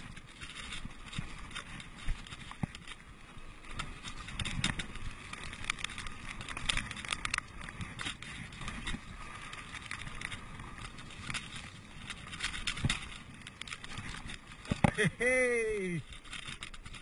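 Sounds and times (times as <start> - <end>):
bike rattling and clicking: 0.0 - 17.0
bike tyres on dirt: 0.0 - 17.0.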